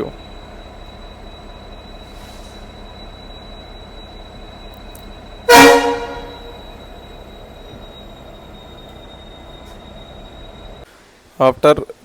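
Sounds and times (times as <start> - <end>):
faint high whine: 0.0 - 10.9.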